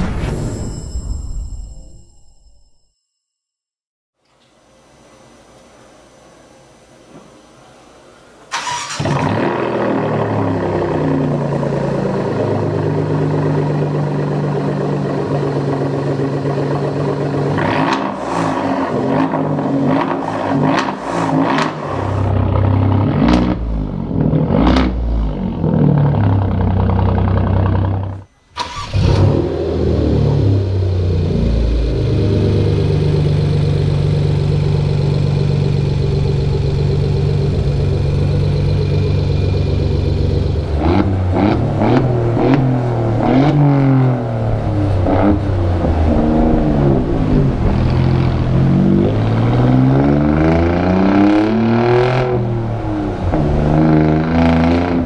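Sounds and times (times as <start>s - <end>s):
car engine idling and revving: 8.6s - 55.0s.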